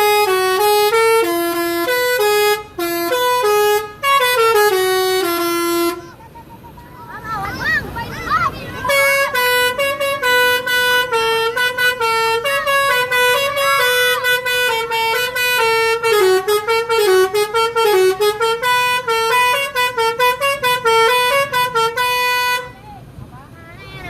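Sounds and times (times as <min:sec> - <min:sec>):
bus horn playing a tune: 0:00.0 - 0:06.4, 0:08.8 - 0:22.8.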